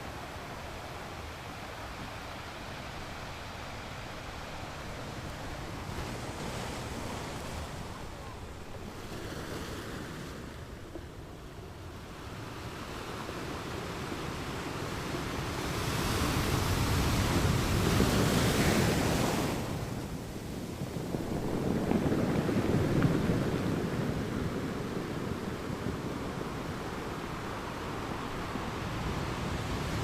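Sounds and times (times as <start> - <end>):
ocean waves surf: 0.0 - 30.0.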